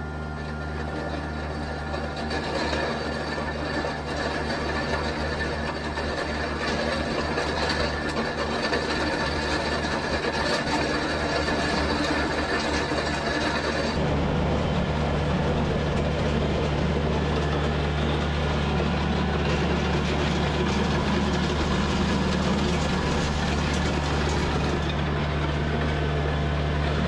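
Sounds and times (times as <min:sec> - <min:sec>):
tractor diesel engine running: 0:00.0 - 0:27.0
blades scraping gravel: 0:00.8 - 0:14.0, 0:15.5 - 0:25.8.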